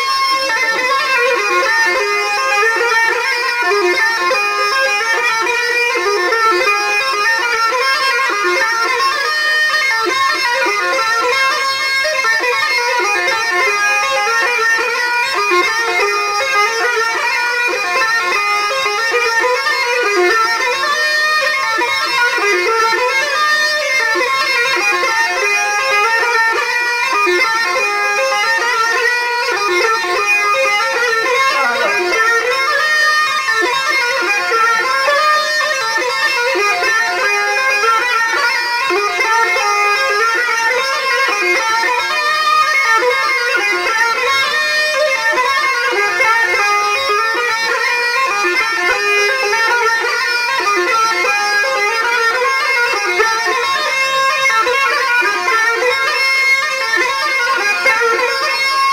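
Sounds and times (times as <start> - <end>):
folk music with reedy wind instrument: 0.0 - 58.9.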